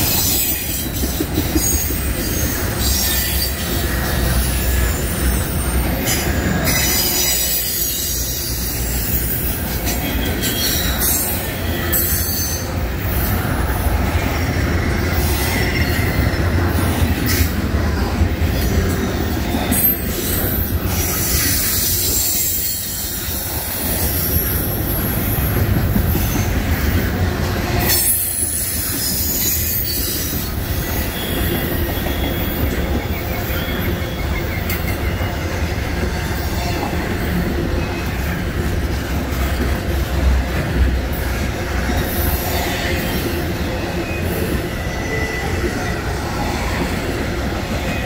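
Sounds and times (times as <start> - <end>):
high wheel squeal: 0.0 - 13.4, 18.5 - 26.8, 27.7 - 38.4, 41.6 - 48.0
train wheels rumbling on rails: 0.0 - 48.0.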